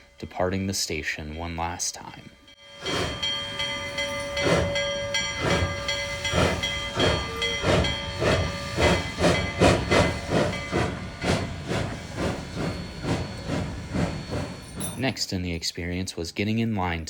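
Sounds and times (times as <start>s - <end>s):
steam hissing: 0.0s - 15.9s
steam locomotive exhaust chuffs: 0.0s - 16.0s.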